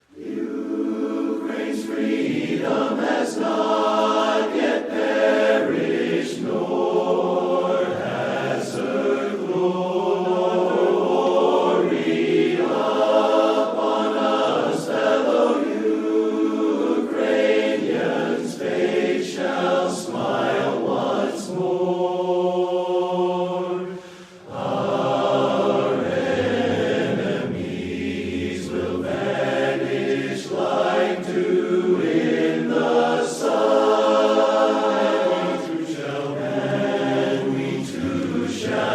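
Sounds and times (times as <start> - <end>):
choir singing sustained notes: 0.0 - 38.9.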